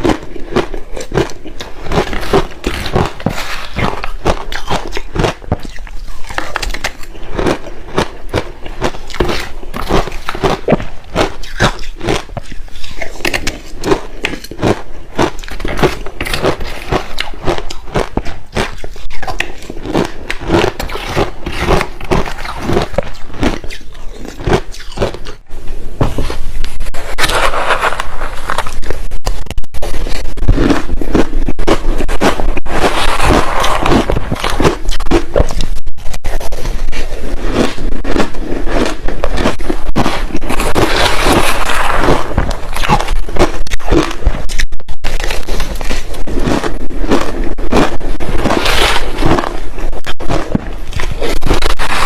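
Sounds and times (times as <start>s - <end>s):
chewing crushed ice: 0.0s - 25.4s, 29.9s - 52.0s.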